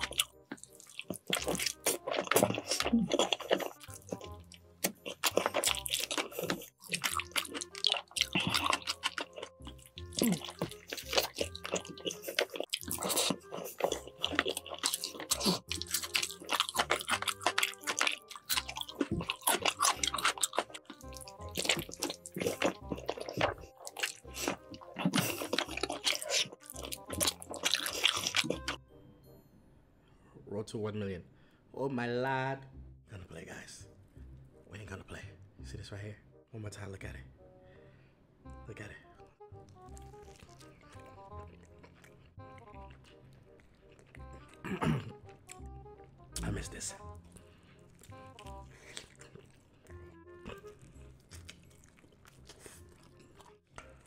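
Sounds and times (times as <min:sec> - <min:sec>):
wet chewing and crunching: 0:00.0 - 0:28.8, 0:39.4 - 0:54.0
background music: 0:00.0 - 0:54.0.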